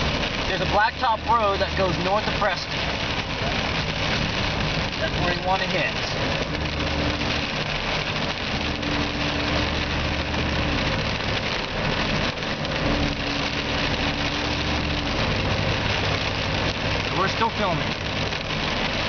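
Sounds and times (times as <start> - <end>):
car engine hum: 0.0 - 19.0
rain and wet tyres hissing: 0.0 - 19.0.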